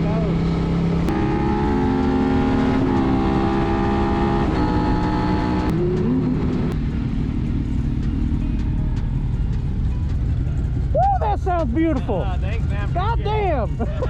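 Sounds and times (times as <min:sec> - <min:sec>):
motorcycle engine and wind rumble: 0:00.0 - 0:14.0.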